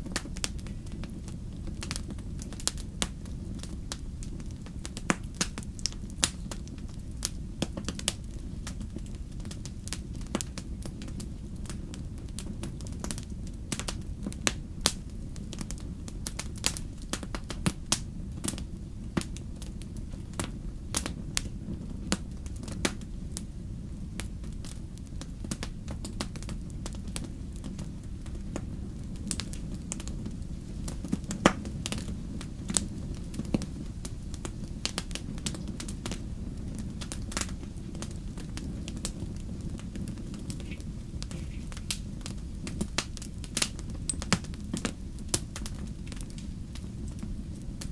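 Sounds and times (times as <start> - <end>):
campfire crackling and popping: 0.0 - 47.9
low fire rumble: 0.0 - 47.9.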